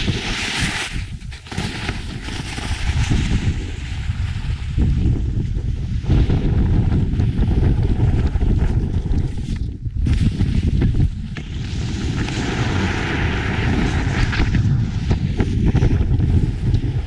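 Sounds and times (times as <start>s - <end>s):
snowboard carving on snow: 0.0s - 17.0s
wind buffeting microphone: 0.0s - 17.0s.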